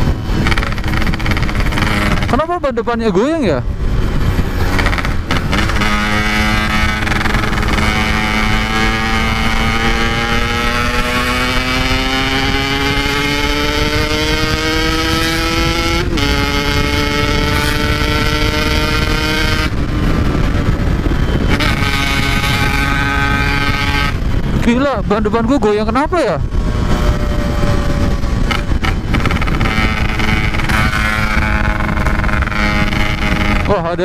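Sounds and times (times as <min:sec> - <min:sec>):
two-stroke motorcycle engine revving: 0:00.0 - 0:03.2, 0:03.8 - 0:34.0
wind rumble on microphone: 0:00.0 - 0:34.0.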